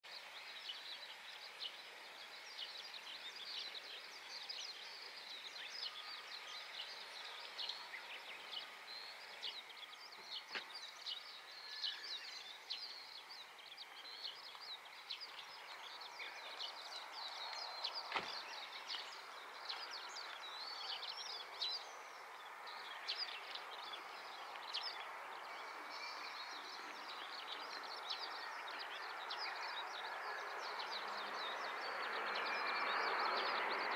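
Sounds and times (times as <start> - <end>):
small birds chirping: 0.1 - 33.9
distant background noise: 4.8 - 33.9.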